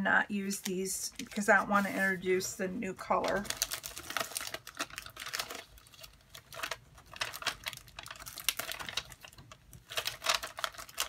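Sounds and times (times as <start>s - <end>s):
plastic packets rustling and clicking: 0.6s - 11.0s.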